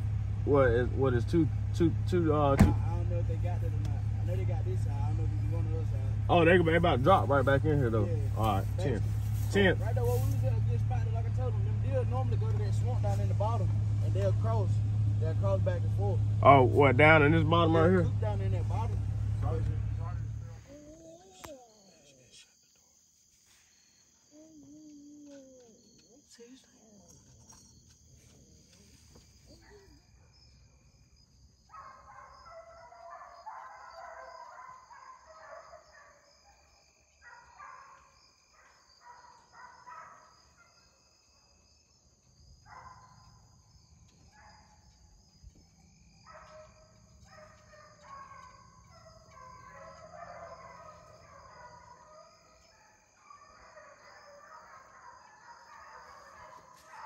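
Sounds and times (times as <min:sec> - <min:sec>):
distant hounds baying: 0:00.0 - 0:23.0, 0:23.8 - 0:57.0.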